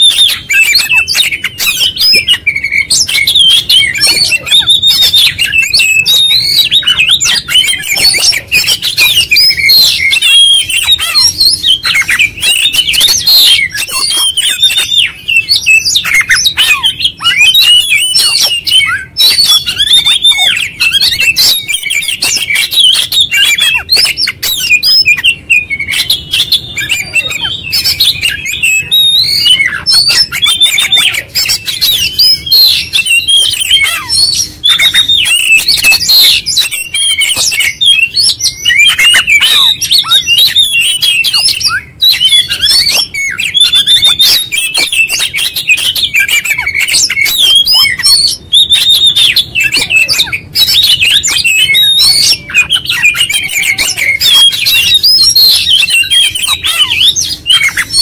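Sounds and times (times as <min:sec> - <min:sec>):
bird singing whistles and chirps: 0:00.0 - 0:58.0.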